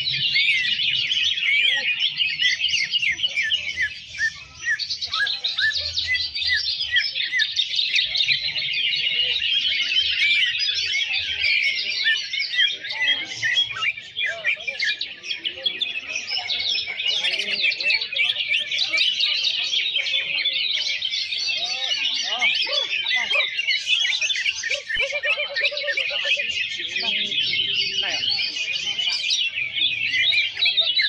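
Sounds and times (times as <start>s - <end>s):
chorus of birds whistling: 0.0s - 31.0s.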